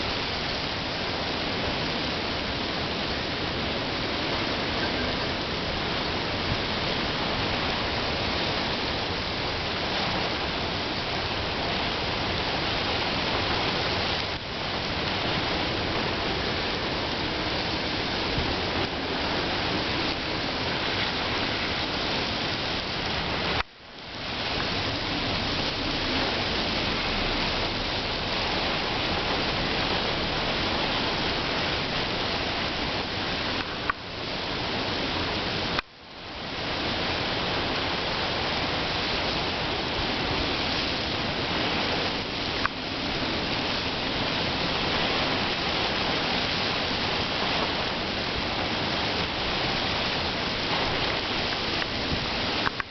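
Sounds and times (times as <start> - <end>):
storm wind: 0.0 - 52.9
surf: 0.0 - 52.9.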